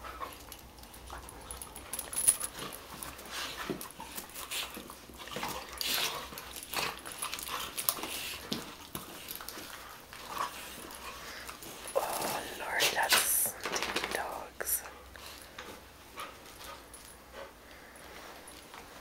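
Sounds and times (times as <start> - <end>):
dogs scuffling and playing: 0.0 - 14.2, 14.9 - 19.0.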